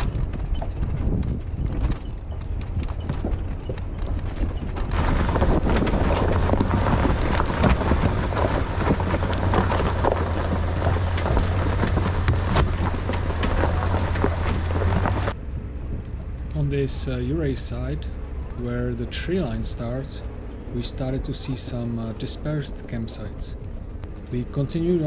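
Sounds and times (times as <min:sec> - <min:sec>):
truck engine drone: 0:00.0 - 0:25.0
tyres crunching on gravel: 0:02.3 - 0:25.0.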